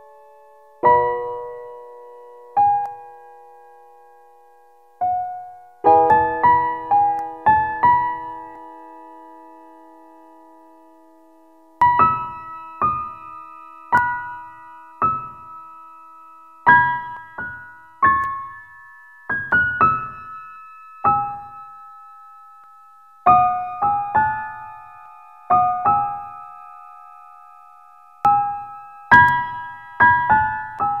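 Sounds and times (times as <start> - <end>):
slow sparse piano music: 0.0 - 31.0.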